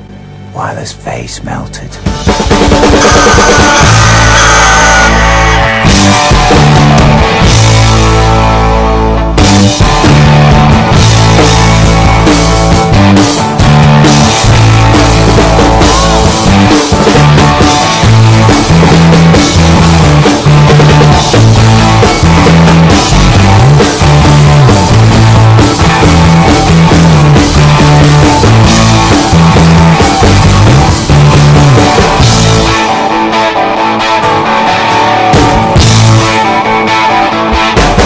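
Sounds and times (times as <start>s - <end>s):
bass line: 1.5s - 32.9s, 35.4s - 36.4s
drum kit: 2.0s - 33.0s, 34.8s - 36.7s, 37.4s - 38.0s.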